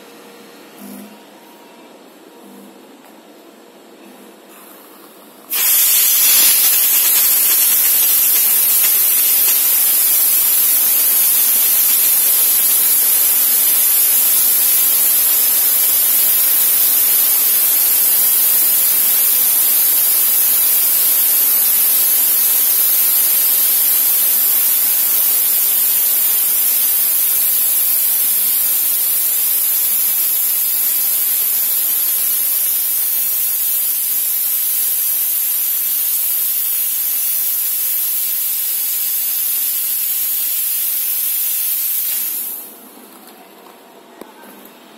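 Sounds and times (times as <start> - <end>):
steam jet hissing: 5.5 - 42.8.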